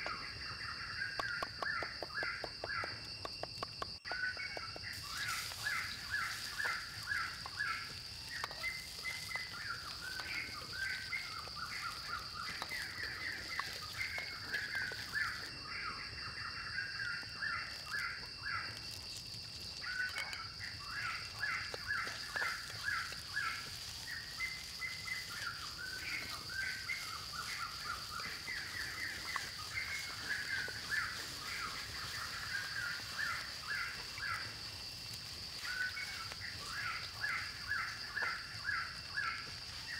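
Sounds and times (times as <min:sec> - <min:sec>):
birds chirping: 0:00.0 - 0:19.1, 0:19.7 - 0:39.9.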